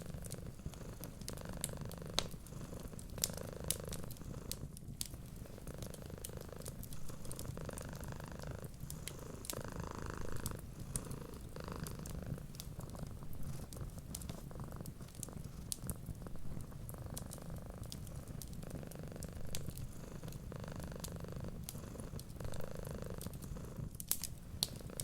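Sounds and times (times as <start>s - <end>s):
cat purring: 0.0s - 25.0s
wood fire crackling: 0.0s - 25.0s.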